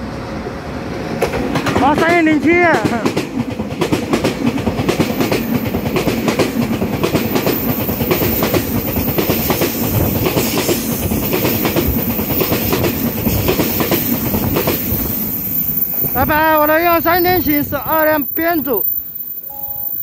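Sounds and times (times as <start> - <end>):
train wheels clattering over joints: 1.2 - 17.8.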